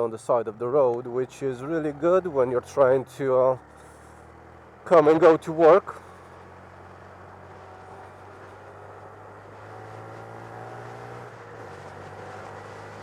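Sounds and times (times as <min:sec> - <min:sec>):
motorcycle engine running: 0:00.9 - 0:13.0.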